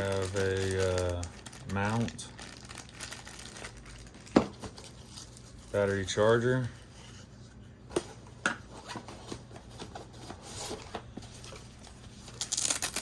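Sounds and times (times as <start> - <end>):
packaging rustling: 0.0 - 6.9, 8.0 - 13.0.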